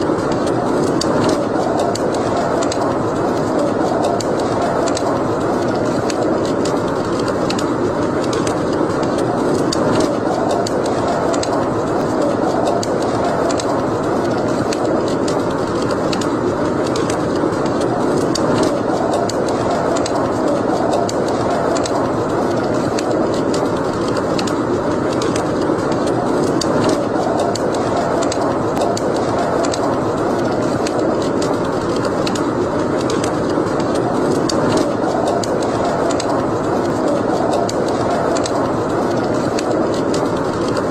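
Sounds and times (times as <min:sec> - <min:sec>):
fire crackles and pops: 0:00.0 - 0:40.9
fire rushing noise: 0:00.0 - 0:40.9.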